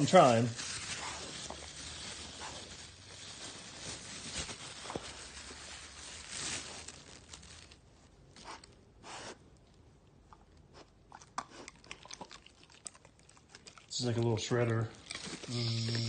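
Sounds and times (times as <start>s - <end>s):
plastic wrapper rustling and tearing: 0.0s - 8.8s, 11.8s - 16.0s.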